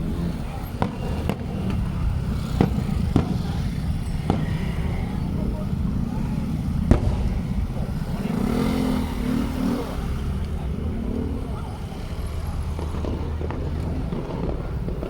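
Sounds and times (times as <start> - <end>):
low rumble: 0.0 - 15.0
people's voices: 0.0 - 15.0.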